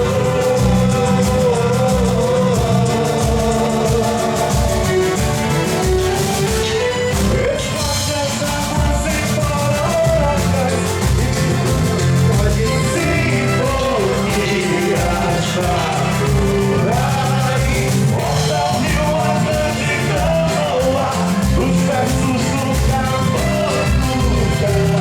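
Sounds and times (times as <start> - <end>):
fast percussion beat: 0.0 - 25.0
person singing: 0.0 - 25.0.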